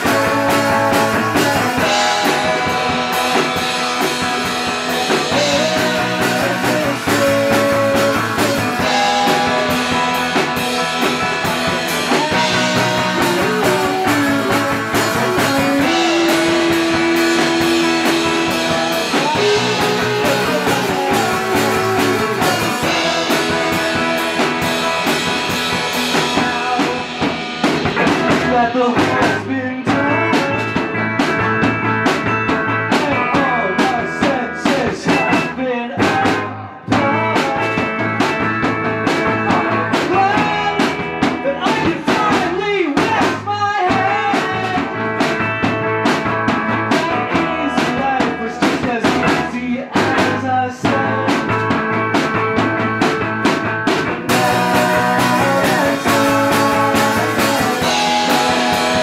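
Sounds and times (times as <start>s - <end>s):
live band playing: 0.0s - 59.0s
steady drum beat: 0.0s - 59.0s.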